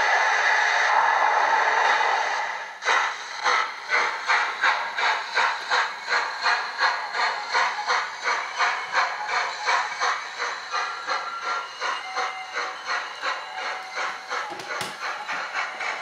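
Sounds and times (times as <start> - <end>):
model train steam chuffing: 0.0 - 16.0
steam hiss: 0.0 - 16.0.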